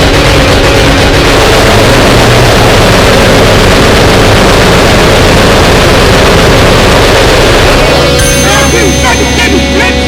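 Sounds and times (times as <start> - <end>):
harsh distorted noise: 0.0 - 10.0.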